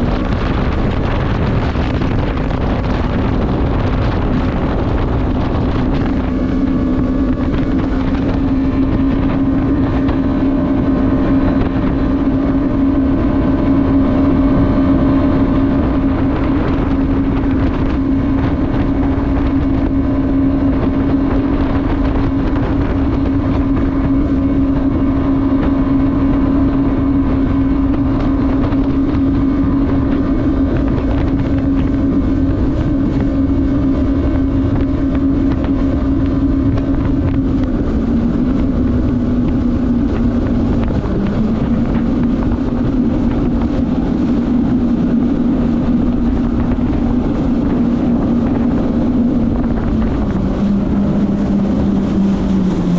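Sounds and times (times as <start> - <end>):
jet ski engine running: 0.0 - 52.9
wind noise on microphone: 0.0 - 52.9.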